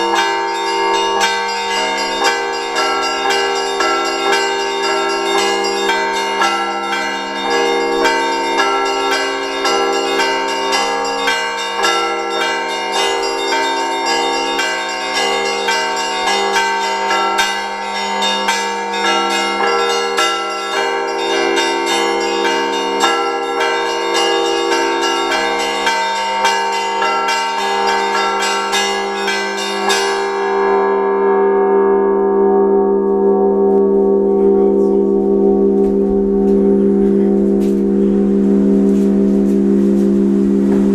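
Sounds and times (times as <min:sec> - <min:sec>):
deep bells ringing: 0:00.0 - 0:40.9.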